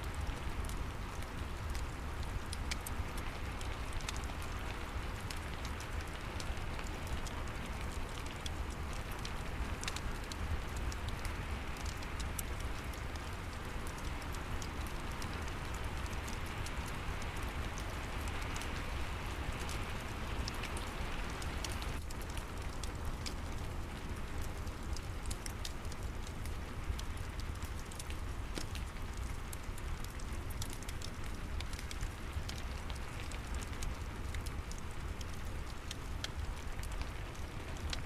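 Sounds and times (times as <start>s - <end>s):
fireplace fire crackling: 0.0s - 38.0s
rain falling: 0.0s - 38.0s.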